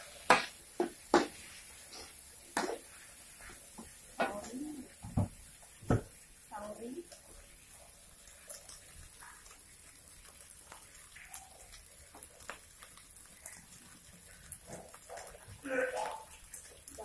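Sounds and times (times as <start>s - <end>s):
rice sizzling in a wok: 0.0s - 17.0s.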